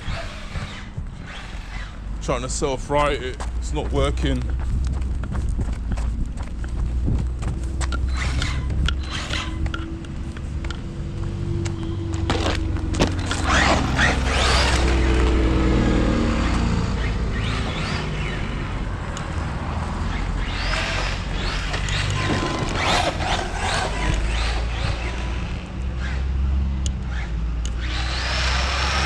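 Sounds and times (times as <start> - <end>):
electric motor whining: 0.0 - 3.2, 6.9 - 29.0
low rumble: 0.0 - 26.9.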